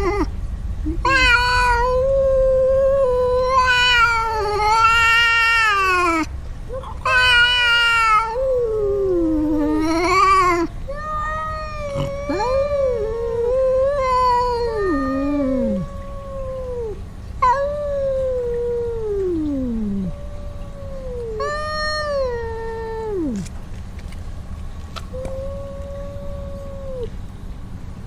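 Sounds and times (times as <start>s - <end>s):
cat yowling: 0.9s - 23.5s, 25.0s - 27.2s.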